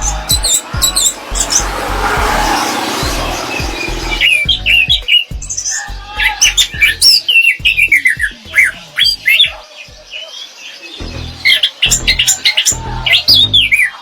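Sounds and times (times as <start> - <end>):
thrush singing: 0.0 - 14.0.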